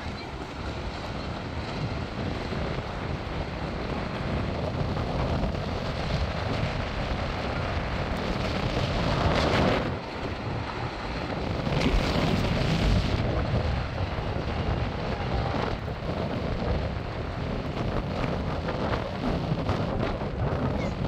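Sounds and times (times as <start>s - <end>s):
constant rushing noise: 0.0s - 21.0s
wind buffeting microphone: 0.0s - 21.0s.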